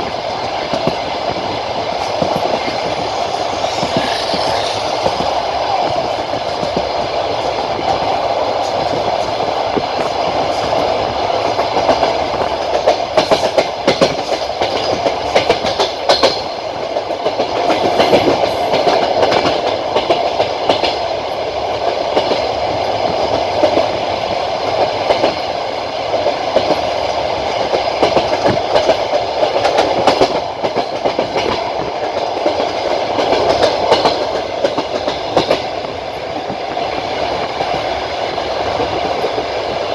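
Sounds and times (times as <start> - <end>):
wheels clacking over rail joints: 0.0 - 21.0, 26.1 - 39.9
train rolling rumble: 0.0 - 39.9.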